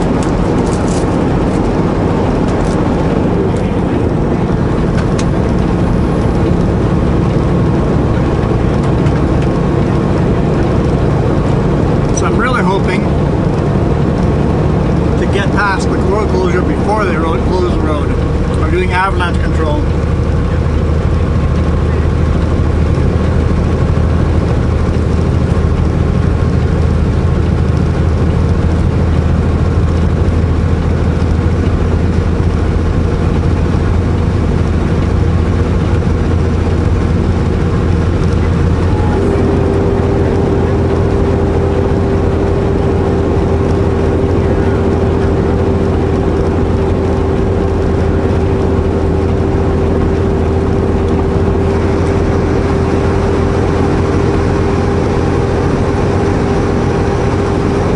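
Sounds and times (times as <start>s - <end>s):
diesel truck engine running: 0.0s - 57.9s
steady whine: 0.0s - 57.9s.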